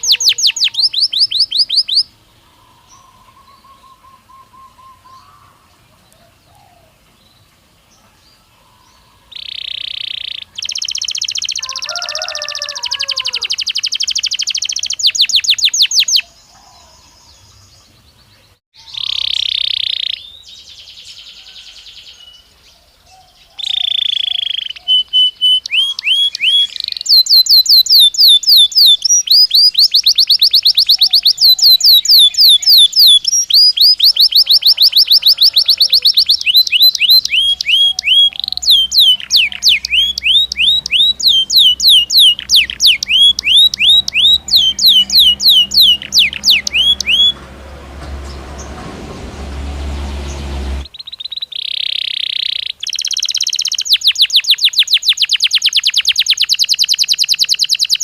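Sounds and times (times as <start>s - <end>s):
canary singing trills: 0.0s - 48.9s, 49.6s - 58.0s.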